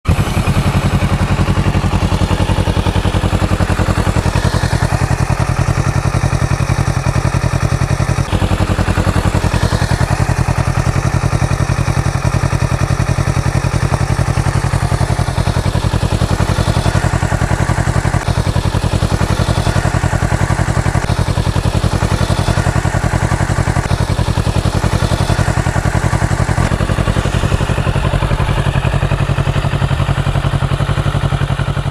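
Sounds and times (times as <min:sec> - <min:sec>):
motorcycle engine idling: 0:00.0 - 0:31.9.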